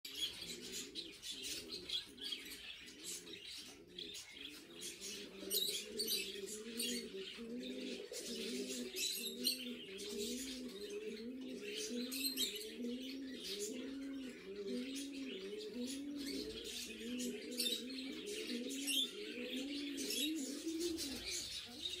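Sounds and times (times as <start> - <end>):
lovebirds chirping: 0.0 - 22.0
low cooing call: 3.0 - 22.0.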